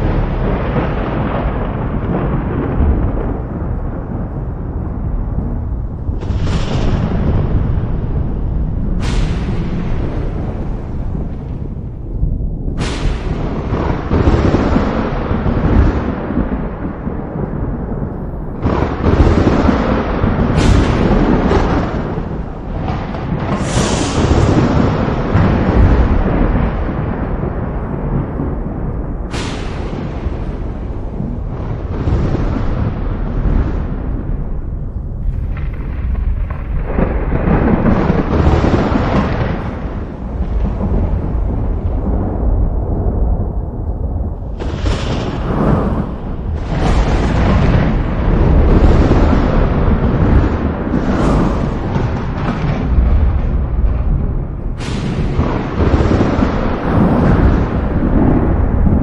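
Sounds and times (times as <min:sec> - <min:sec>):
rolling thunder rumble: 0:00.0 - 0:59.0
thunder crack: 0:00.0 - 0:59.0.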